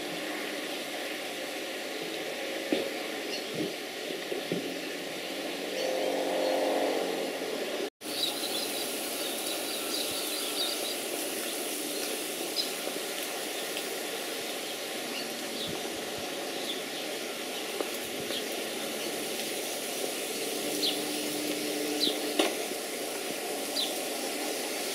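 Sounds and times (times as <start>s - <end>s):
steady outdoor hiss: 0.0s - 24.9s.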